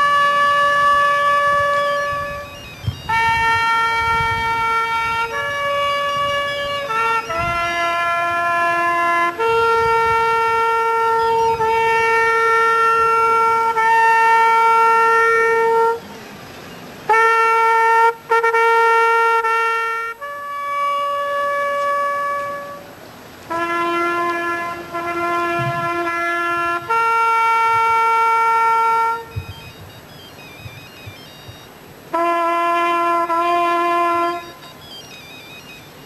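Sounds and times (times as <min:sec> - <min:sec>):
solo trumpet military call: 0:00.0 - 0:36.0.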